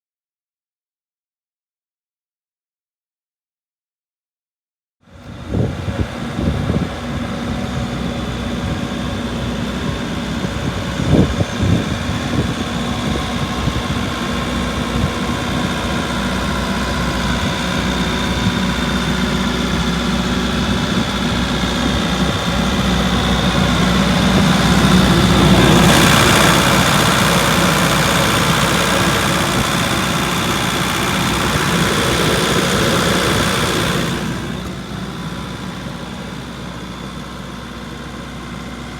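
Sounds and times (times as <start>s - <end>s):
excavator diesel engine running: 5.2s - 38.9s.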